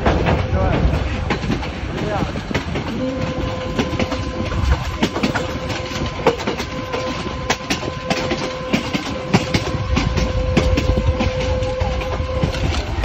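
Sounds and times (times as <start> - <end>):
train rumbling: 0.0 - 13.0
wheels clicking and knocking: 0.0 - 13.0.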